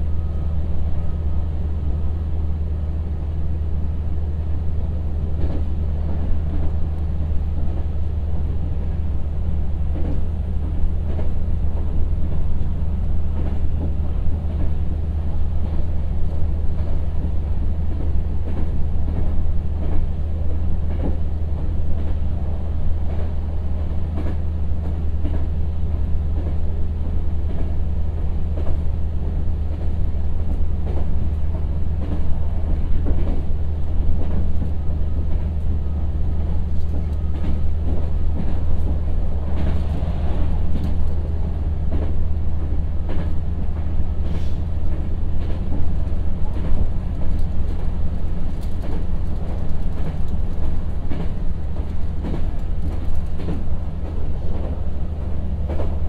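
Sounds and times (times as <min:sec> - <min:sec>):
diesel railcar drone: 0:00.0 - 0:56.0
wheel and rail rumble: 0:00.0 - 0:56.0.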